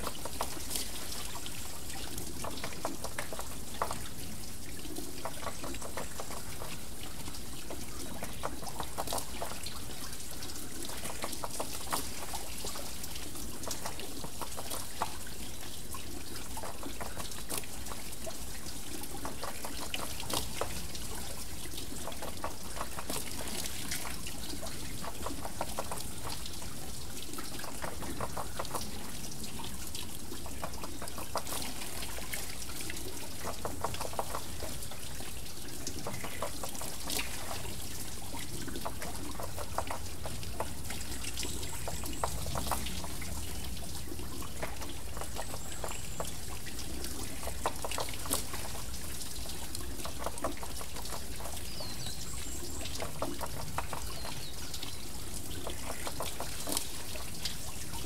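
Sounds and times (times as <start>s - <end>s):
small water splashes: 0.0s - 58.0s
water pouring off water wheel: 0.0s - 58.0s.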